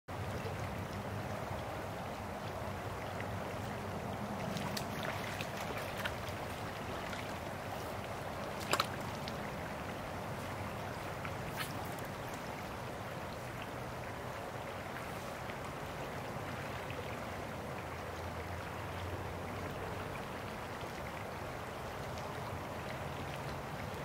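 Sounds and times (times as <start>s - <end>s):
creek water flowing: 0.1s - 24.0s.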